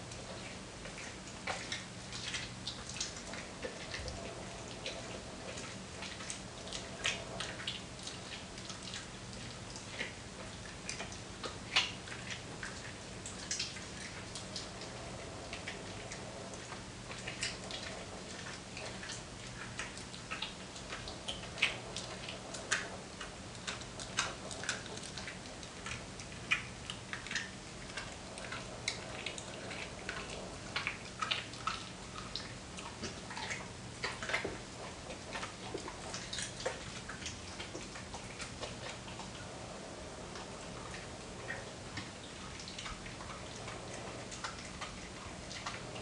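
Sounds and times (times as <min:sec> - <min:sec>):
dog chewing raw meat: 0:00.0 - 0:46.0
faint steady hum: 0:00.0 - 0:46.0.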